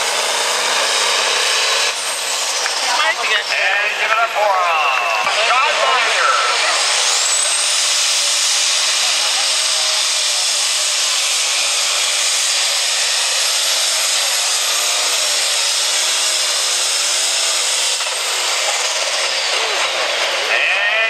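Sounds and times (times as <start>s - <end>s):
tractor diesel engine at full throttle: 0.0s - 21.0s.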